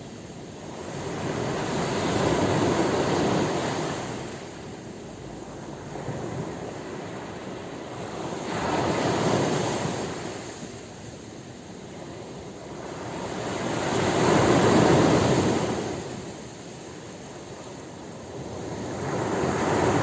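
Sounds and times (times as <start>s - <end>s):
ocean waves breaking on shore: 0.2s - 20.0s.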